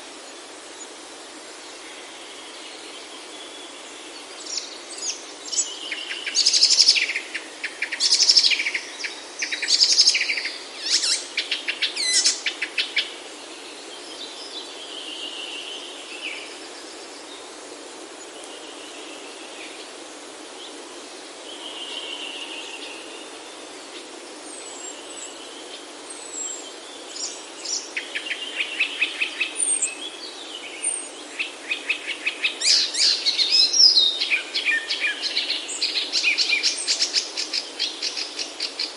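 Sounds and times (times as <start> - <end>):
wild birds singing: 0.0 - 38.9.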